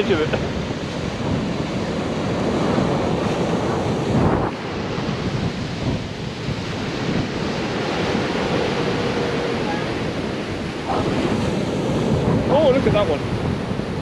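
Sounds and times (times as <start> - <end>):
small waves breaking on beach: 0.0 - 14.0
wind buffeting microphone: 0.0 - 14.0.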